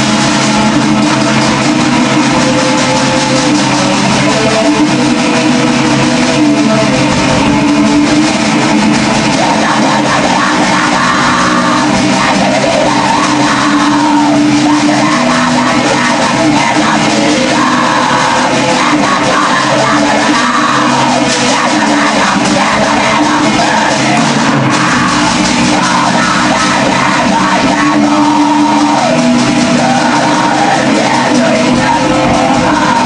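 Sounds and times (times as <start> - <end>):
distorted electric guitars: 0.0 - 33.0
drums: 0.0 - 33.0
harsh yelled vocals: 0.0 - 33.0.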